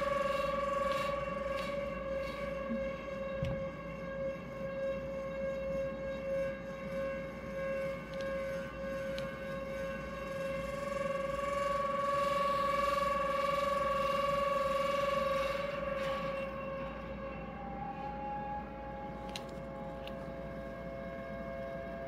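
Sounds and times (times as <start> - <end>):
electronic drone tone: 0.0 - 22.0.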